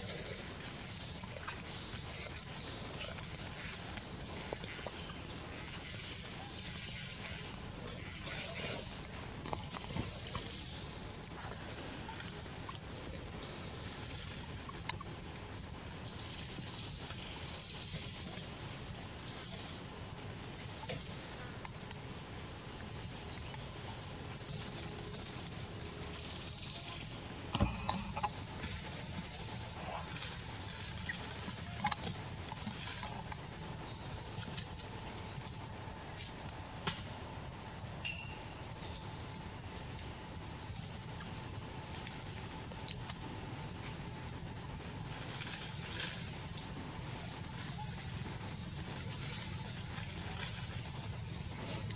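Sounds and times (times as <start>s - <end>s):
insect trilling: 0.0s - 51.9s.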